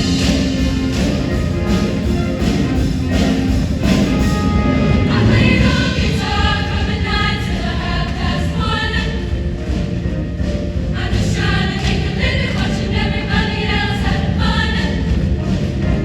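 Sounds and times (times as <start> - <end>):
choir singing: 0.0 - 9.9, 10.8 - 16.0
loud backing music: 0.0 - 16.0.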